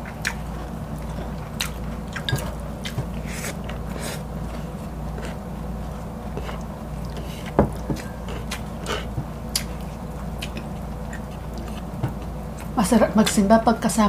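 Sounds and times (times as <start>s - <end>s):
close-miked chewing: 0.0s - 13.5s
steady low hum: 0.0s - 14.0s.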